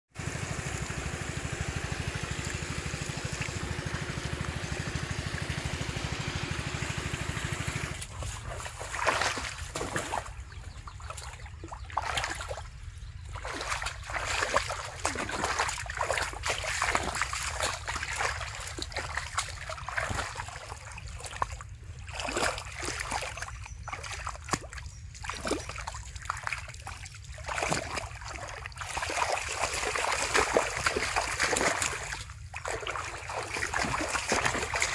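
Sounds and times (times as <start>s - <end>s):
splashing in muddy water: 0.2s - 34.9s.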